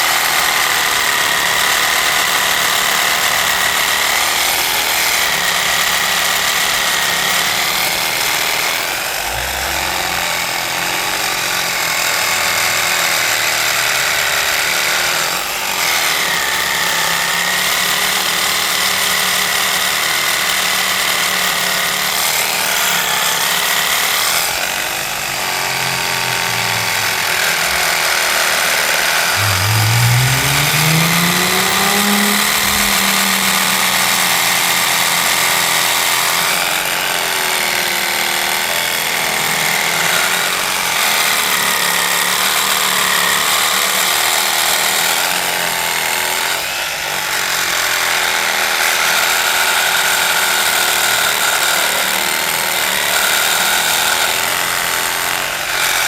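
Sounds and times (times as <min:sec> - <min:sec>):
reciprocating saw cutting pipe: 0:00.0 - 0:56.0.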